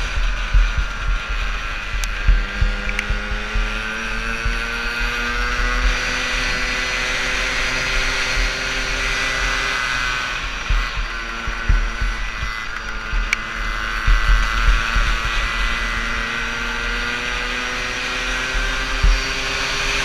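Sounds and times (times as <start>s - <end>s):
two-stroke engine revving: 0.0s - 20.0s
wind rumble and bumps: 0.0s - 20.0s.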